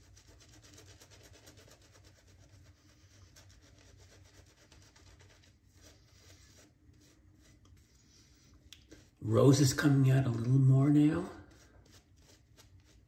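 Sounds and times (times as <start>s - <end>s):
shaving brush rubbing lather: 0.0s - 13.0s.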